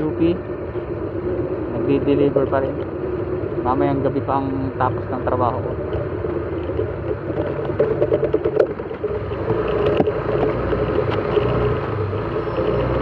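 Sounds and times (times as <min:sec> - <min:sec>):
motorcycle engine running: 0:00.0 - 0:13.0
rattling over road hump: 0:00.0 - 0:13.0.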